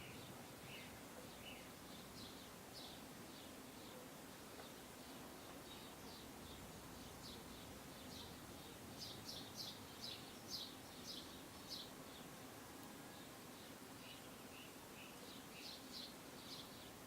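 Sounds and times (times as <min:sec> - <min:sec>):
bird chirping: 0:00.0 - 0:04.0, 0:04.6 - 0:12.4, 0:13.1 - 0:17.0
faint background hiss: 0:00.0 - 0:17.0.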